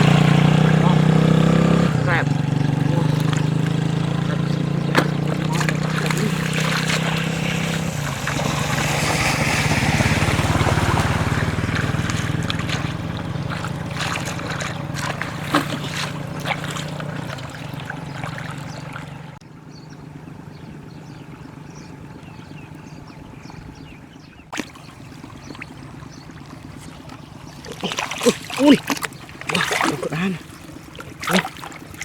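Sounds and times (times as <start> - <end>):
water splashing: 0.0 - 19.4, 24.5 - 32.0
small boat motor running: 0.0 - 32.0.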